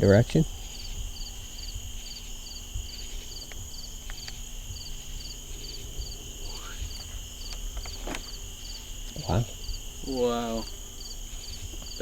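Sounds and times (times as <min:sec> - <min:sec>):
cricket chirping: 0:00.0 - 0:12.0
insects droning: 0:00.0 - 0:12.0.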